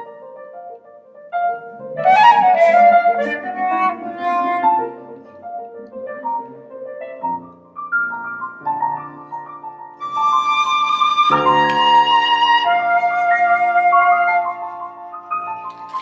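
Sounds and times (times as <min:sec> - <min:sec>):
flute melody: 0:00.0 - 0:06.7, 0:07.8 - 0:16.0
piano chords: 0:00.0 - 0:16.0.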